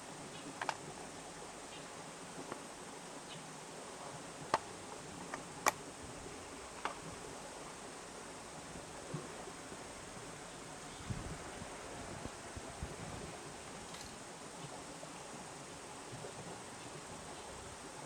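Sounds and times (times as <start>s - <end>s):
outdoor ambient hiss: 0.0s - 18.0s.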